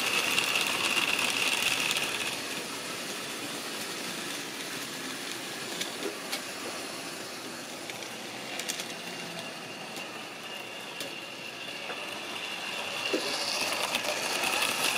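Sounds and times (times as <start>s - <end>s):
model train motor whirring: 0.0s - 14.9s
wheels clicking over rail joints: 0.0s - 14.9s.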